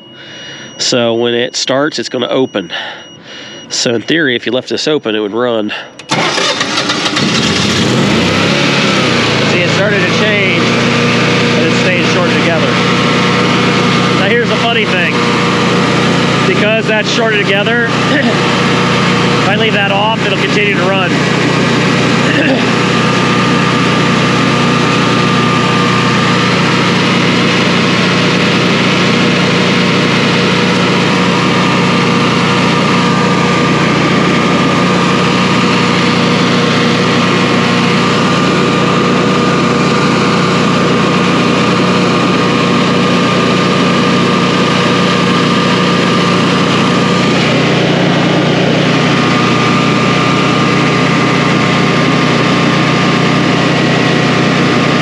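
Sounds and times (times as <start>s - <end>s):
generator engine running: 0.0s - 55.0s.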